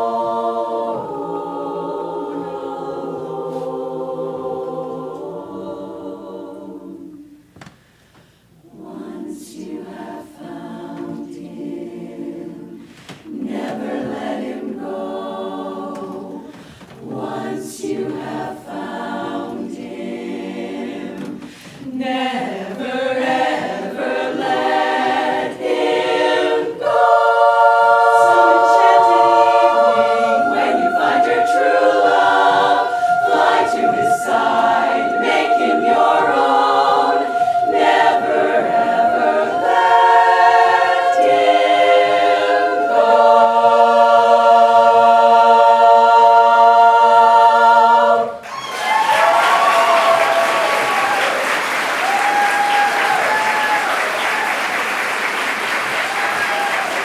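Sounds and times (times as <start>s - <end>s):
women's chorus singing a cappella: 0.0s - 7.8s, 8.5s - 53.8s.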